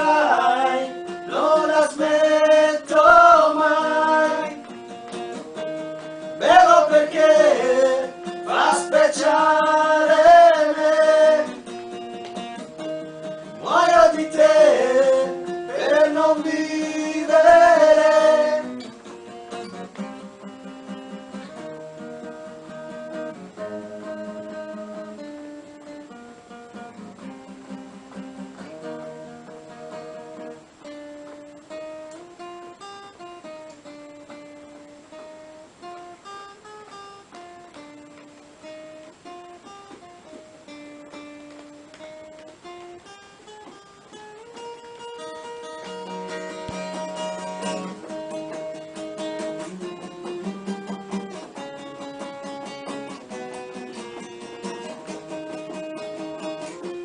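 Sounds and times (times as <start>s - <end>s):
guitar playing: 0.0s - 57.0s.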